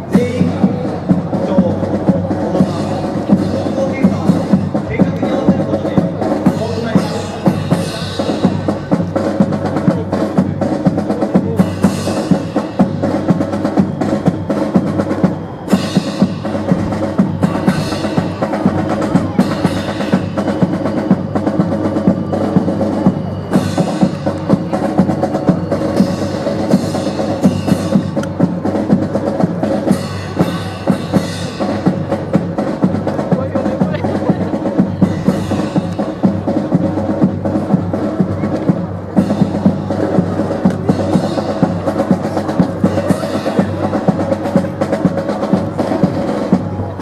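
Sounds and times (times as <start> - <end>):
drum-led music: 0.0 - 47.0.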